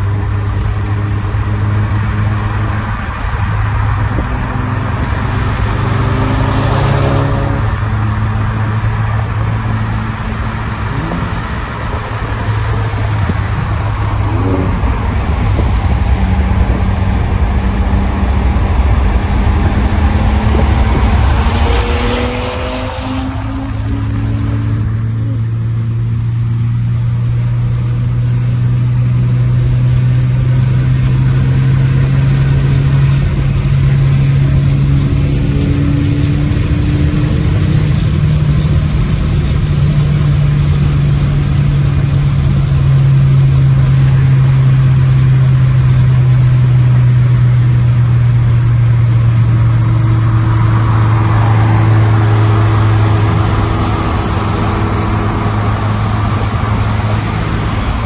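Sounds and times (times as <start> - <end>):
loud car engine drone: 0.0 - 58.0.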